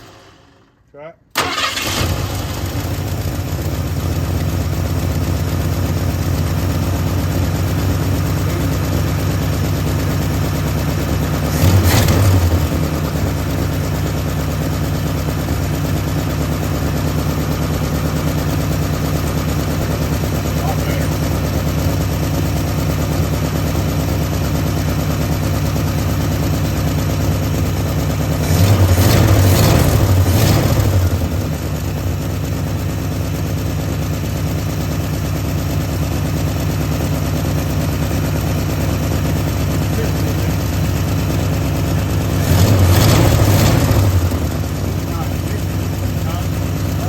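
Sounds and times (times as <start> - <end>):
engine idling and revving: 1.4 - 47.0.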